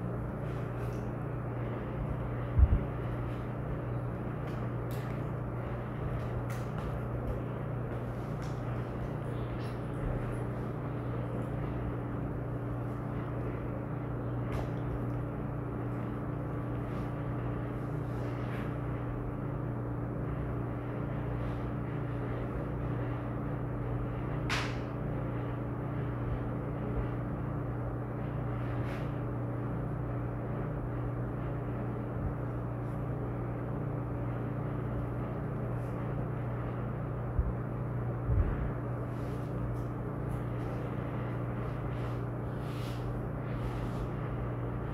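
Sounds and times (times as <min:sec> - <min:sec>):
low room hum: 0:00.0 - 0:44.9.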